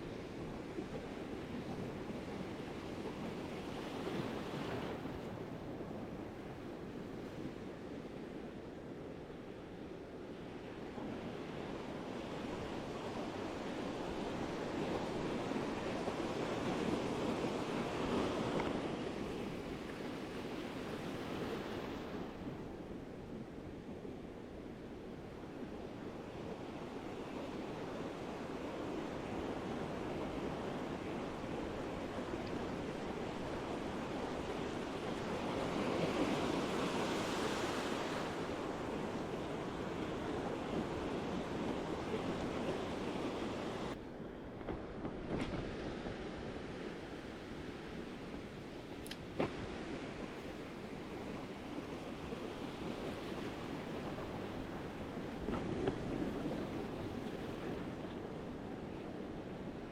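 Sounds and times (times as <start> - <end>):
ocean surf on a beach: 0.0 - 59.9
wind rumble on microphone: 0.0 - 59.9.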